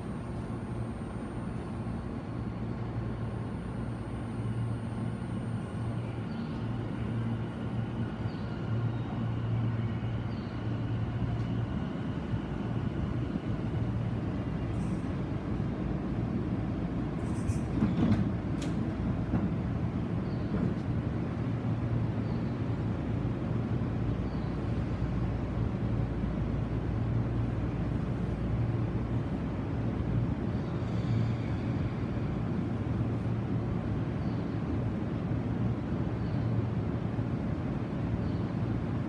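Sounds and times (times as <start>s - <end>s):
electric train humming: 0.0s - 39.0s.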